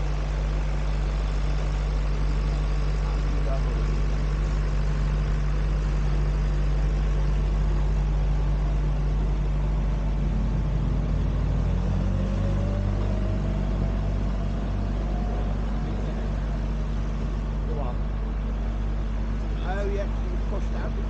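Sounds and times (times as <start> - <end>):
engine running: 0.0 - 21.0
faint rising whine: 0.0 - 21.0.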